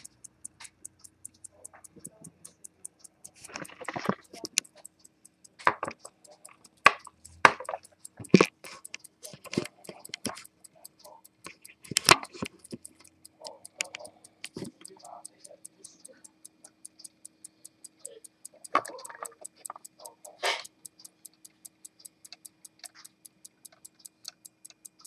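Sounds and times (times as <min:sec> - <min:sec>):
pocket watch ticking: 0:00.0 - 0:25.0.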